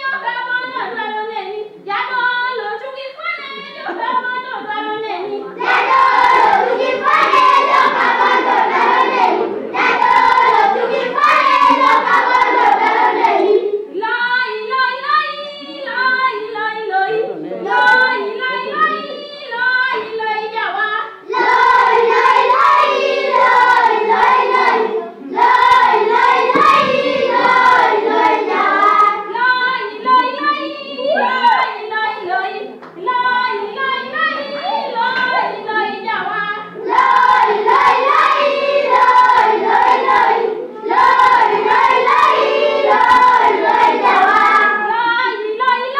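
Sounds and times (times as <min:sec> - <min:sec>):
children's choir singing: 0:00.0 - 0:45.9.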